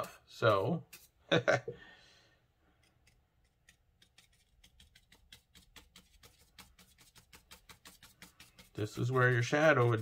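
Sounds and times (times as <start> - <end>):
brush dabbing paint on paper: 0.0 - 1.4, 2.6 - 10.0.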